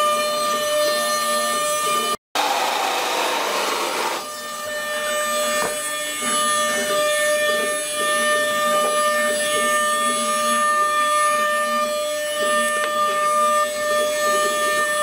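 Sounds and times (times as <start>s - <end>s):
router spindle high whine: 0.0s - 15.0s.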